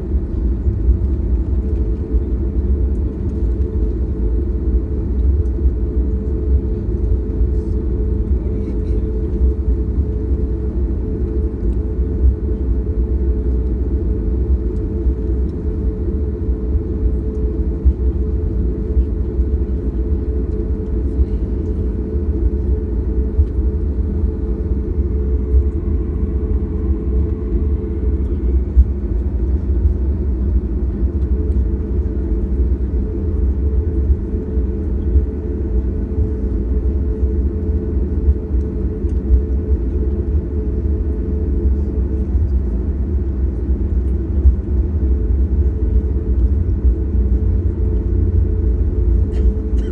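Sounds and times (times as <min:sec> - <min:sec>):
jet airliner drone: 0:00.0 - 0:49.9.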